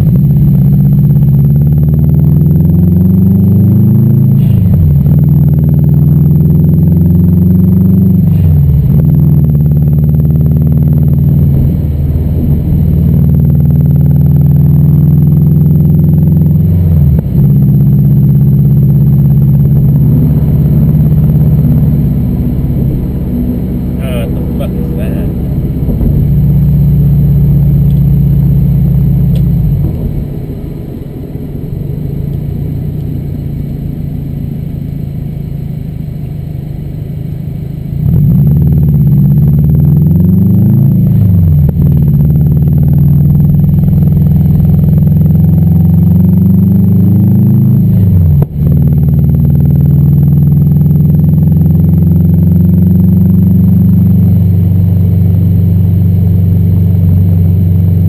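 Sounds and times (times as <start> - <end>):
gear changes: 0.0 - 50.8
car engine droning from inside: 0.0 - 58.0.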